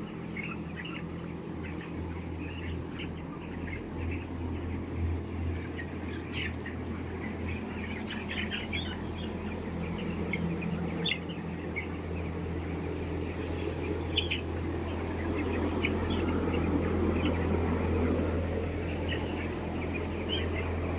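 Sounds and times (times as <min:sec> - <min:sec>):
poultry squawking and chirping: 0:00.0 - 0:20.9
steady low hum: 0:00.0 - 0:20.9.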